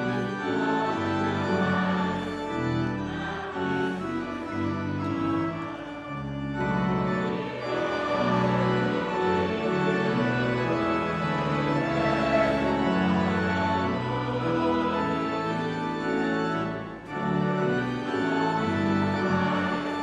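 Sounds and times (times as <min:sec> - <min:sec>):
church organ playing a hymn: 0:00.0 - 0:20.0.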